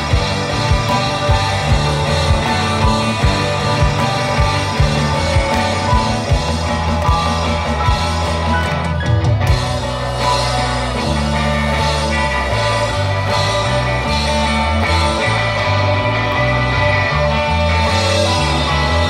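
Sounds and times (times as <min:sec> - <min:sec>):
drums: 0:00.0 - 0:19.0
electric guitars: 0:00.0 - 0:19.0
heavy bass line: 0:00.0 - 0:19.0
keyboard: 0:00.0 - 0:19.0.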